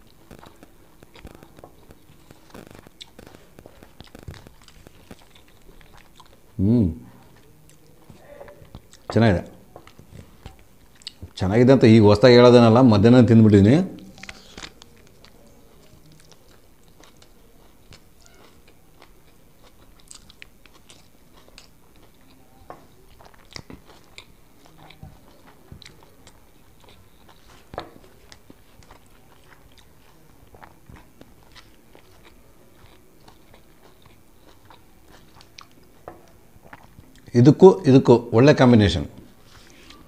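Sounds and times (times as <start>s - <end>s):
man chewing: 0.0s - 11.4s, 14.0s - 37.3s, 39.3s - 40.0s.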